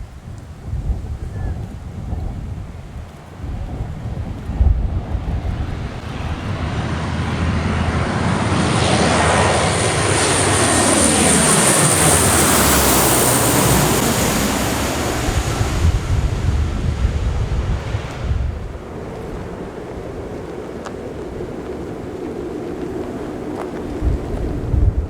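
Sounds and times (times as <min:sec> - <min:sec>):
wind rumble on microphone: 0:00.0 - 0:25.0
propeller plane flying past: 0:03.1 - 0:25.0.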